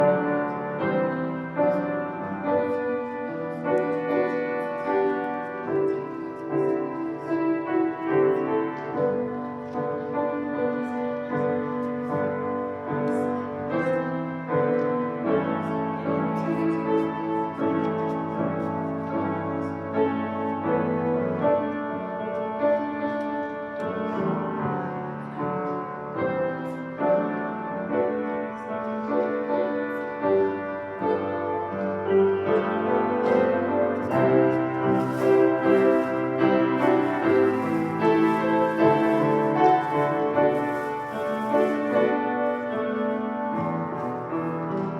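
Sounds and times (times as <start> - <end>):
piano playing slow chords: 0.0 - 44.9.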